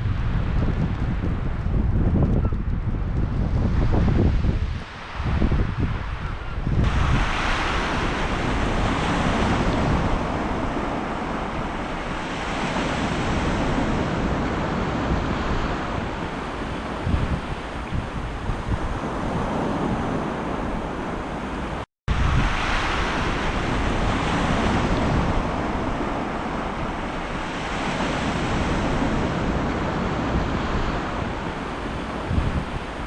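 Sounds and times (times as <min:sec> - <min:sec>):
wind buffeting microphone: 0:00.0 - 0:33.0
sea waves breaking on shore: 0:03.7 - 0:33.0.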